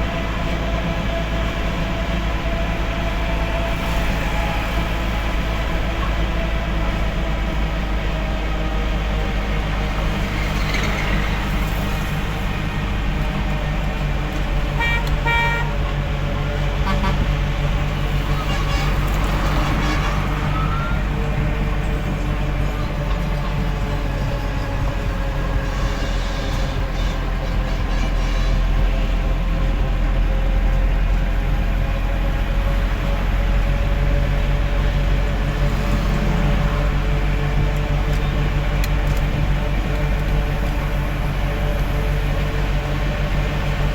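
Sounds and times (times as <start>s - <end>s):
truck engine and road noise: 0.0s - 43.9s.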